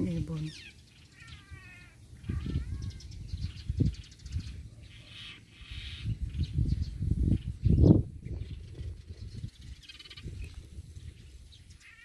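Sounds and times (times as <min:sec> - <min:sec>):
drawn-out falling bird calls: 0:00.0 - 0:06.2, 0:08.3 - 0:12.0
high bird chirps: 0:00.2 - 0:12.0.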